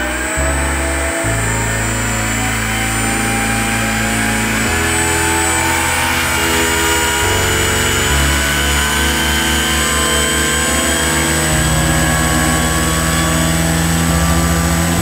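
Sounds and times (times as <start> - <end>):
electric motor whine: 0.0 - 15.0
propeller wash rushing: 0.0 - 15.0.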